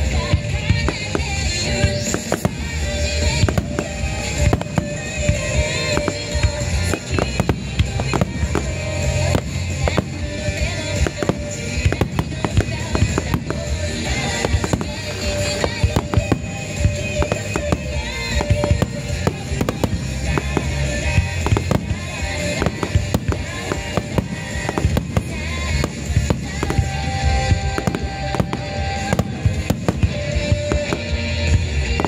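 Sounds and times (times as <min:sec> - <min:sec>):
firework shells bursting: 0:00.0 - 0:32.0
music playing: 0:00.0 - 0:32.0.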